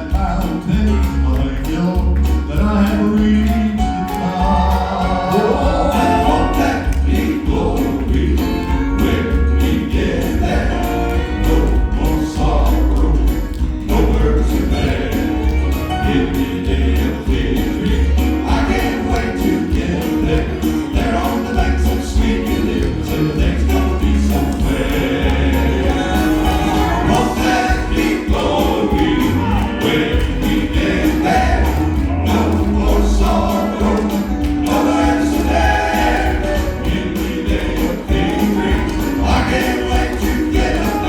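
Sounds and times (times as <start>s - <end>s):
backing band: 0.0s - 41.0s
gospel quartet singing in harmony: 0.0s - 41.0s
heavy bass line: 0.0s - 41.0s
light high percussion: 0.0s - 41.0s.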